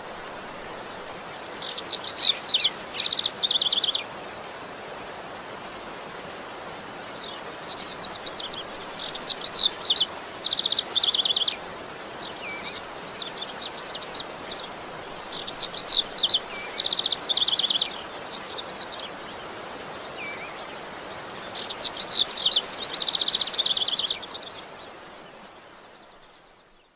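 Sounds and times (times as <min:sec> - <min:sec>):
steady background hiss: 0:00.0 - 0:26.9
songbird trills and chirps: 0:00.7 - 0:04.1, 0:07.0 - 0:26.9.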